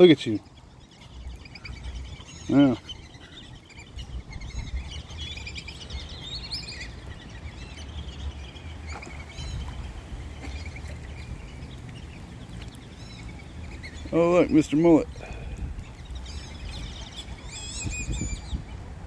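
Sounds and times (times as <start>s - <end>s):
birds chirping and whistling: 0.0s - 18.8s
steady low rumble: 0.5s - 19.0s.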